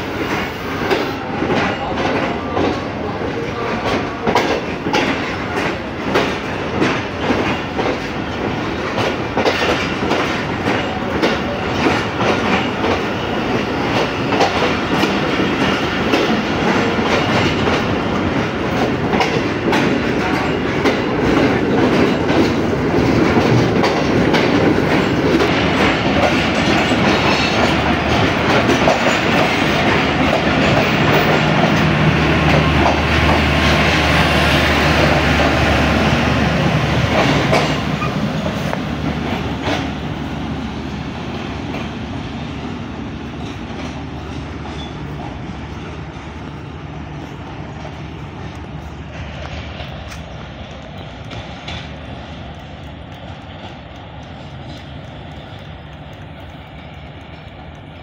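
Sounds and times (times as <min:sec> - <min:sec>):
train rumble: 0:00.0 - 0:58.0
wheels clickety-clack over rail joints: 0:00.0 - 0:58.0.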